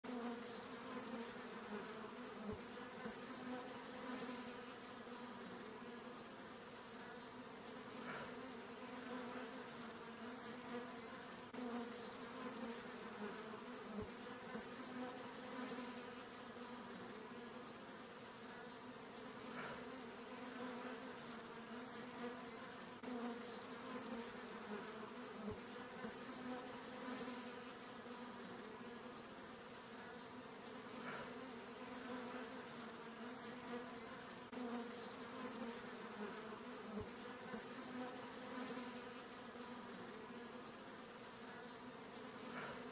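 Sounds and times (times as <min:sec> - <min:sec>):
honey bees buzzing: 0:00.1 - 0:42.9.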